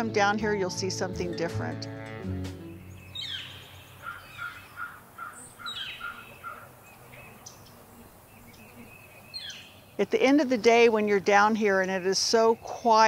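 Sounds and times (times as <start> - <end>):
short evenly spaced bird notes: 2.4 - 13.0.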